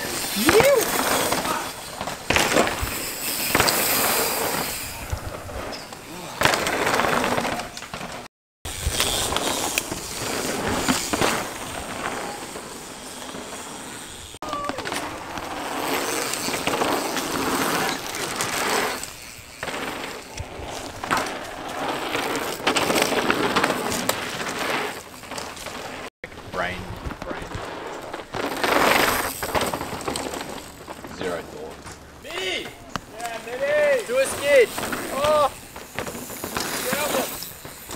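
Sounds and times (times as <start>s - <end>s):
bike rattling: 0.0s - 37.9s
bike tyres crunching over dirt: 0.0s - 37.9s.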